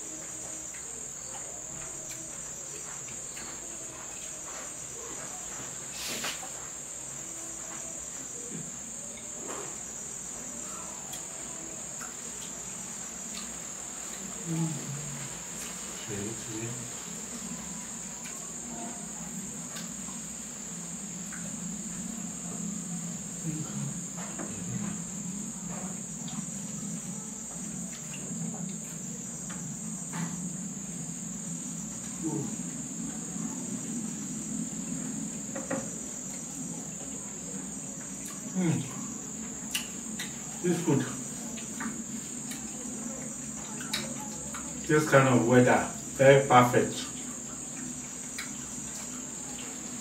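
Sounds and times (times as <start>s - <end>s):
crickets trilling: 0.0s - 50.0s.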